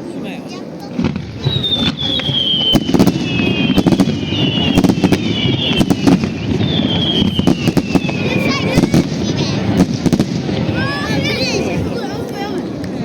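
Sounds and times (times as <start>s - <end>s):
firework bangs and crackles: 0.7s - 13.0s
firework whistles: 1.0s - 11.4s.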